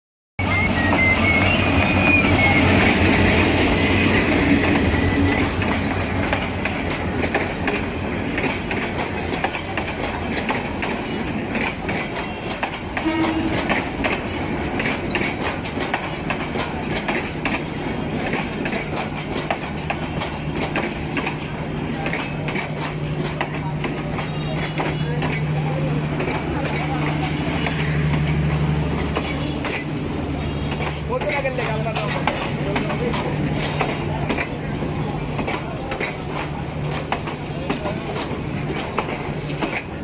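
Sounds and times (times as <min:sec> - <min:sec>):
diesel locomotive passing: 0:00.4 - 0:40.0
train wheels clacking over rail joints: 0:00.9 - 0:40.0.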